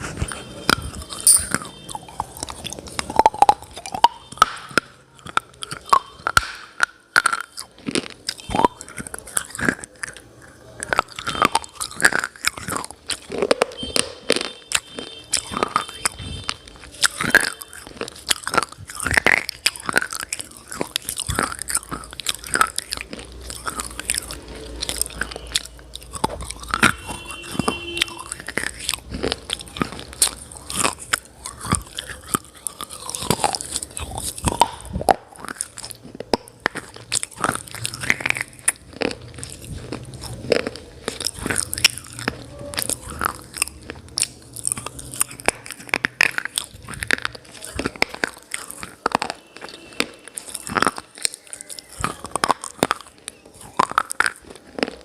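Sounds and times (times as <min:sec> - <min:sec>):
crunchy chewing of clay: 0:00.0 - 0:55.0.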